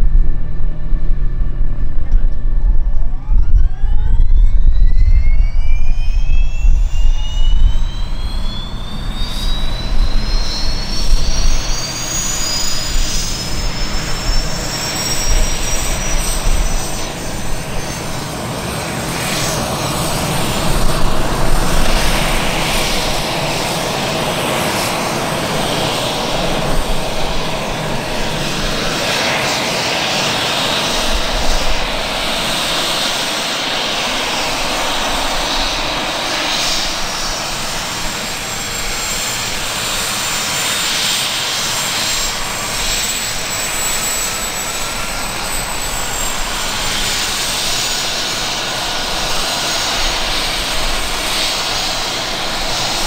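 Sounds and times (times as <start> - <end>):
helicopter engine and rotor noise: 0.0 - 53.0
helicopter turbine whine: 0.0 - 53.0.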